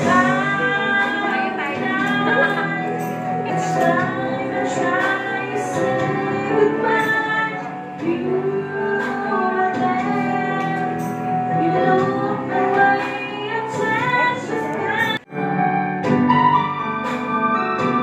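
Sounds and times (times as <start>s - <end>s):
woman singing: 0.0s - 15.5s
instrumental backing music: 0.0s - 18.0s.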